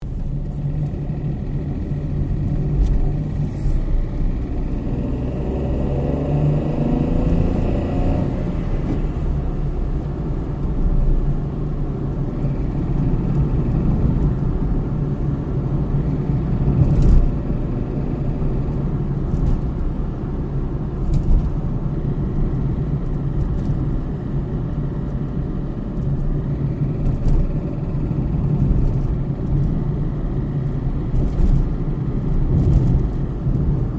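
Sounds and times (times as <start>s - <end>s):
car engine revving: 0.6s - 33.9s.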